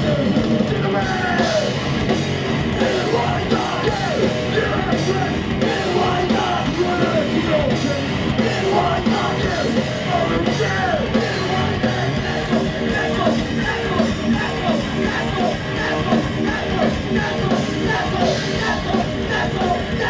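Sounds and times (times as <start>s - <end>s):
heavy metal band playing: 0.0s - 20.0s.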